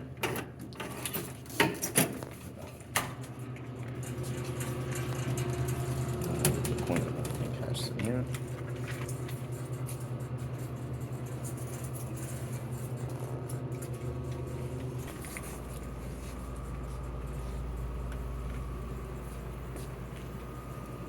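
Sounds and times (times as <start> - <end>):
pulsing mechanical hum: 2.2 - 21.0.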